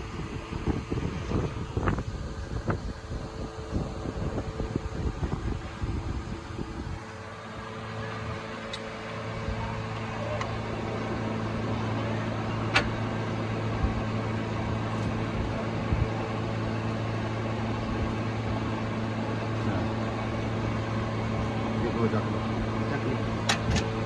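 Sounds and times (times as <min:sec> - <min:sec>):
car engine humming: 0:00.0 - 0:24.0.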